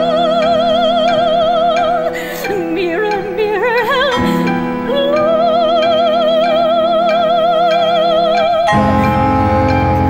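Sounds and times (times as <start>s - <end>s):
sustained instrumental chords: 0.0s - 10.0s.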